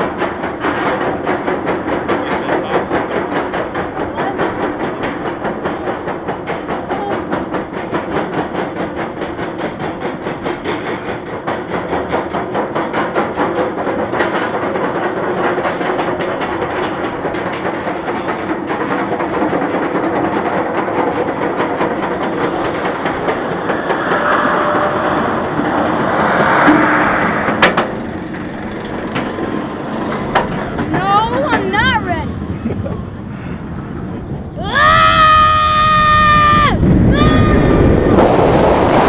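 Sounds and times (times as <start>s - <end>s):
roller coaster chain lift clattering: 0.0s - 26.1s, 27.6s - 39.0s.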